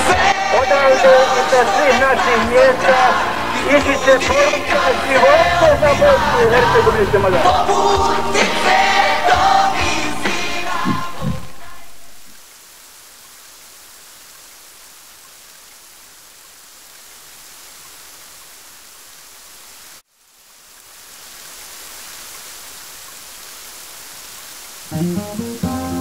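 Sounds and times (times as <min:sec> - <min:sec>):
falling rain: 0:00.0 - 0:26.0.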